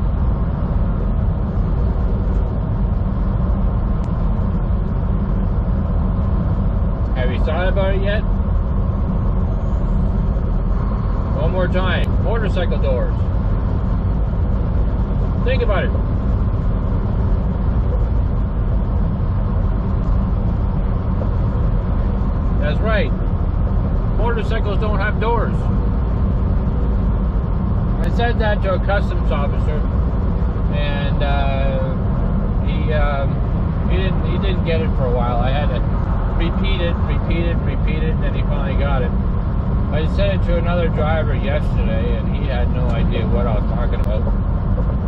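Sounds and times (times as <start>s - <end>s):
truck engine and road drone: 0.0s - 45.0s.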